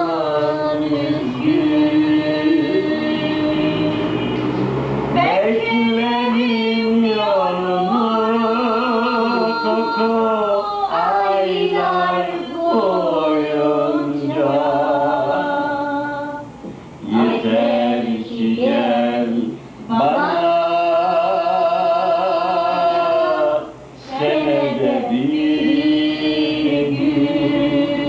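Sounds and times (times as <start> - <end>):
man singing unaccompanied: 0.0 - 4.5, 5.2 - 28.0.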